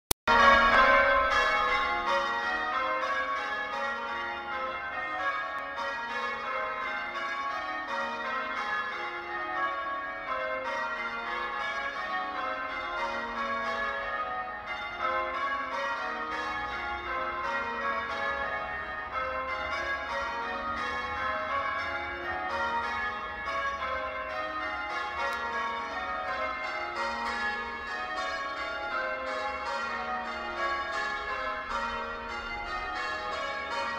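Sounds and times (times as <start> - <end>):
church bells ringing changes: 0.3 - 33.9.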